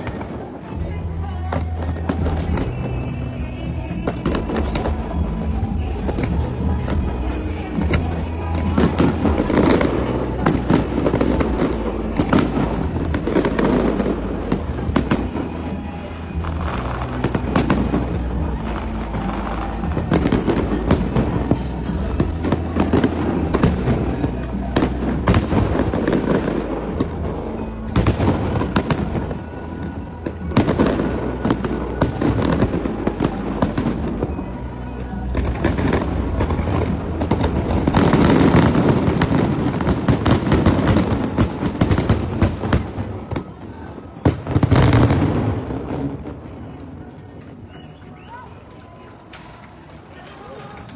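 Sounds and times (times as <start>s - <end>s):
music with steady bass: 0.0s - 42.7s
fireworks bursting: 0.0s - 50.9s.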